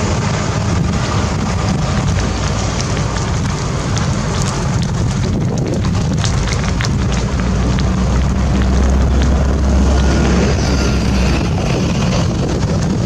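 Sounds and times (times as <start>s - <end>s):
fire crackling: 0.0s - 13.0s
vegetation fire: 0.0s - 13.0s
wind buffeting microphone: 0.0s - 13.0s.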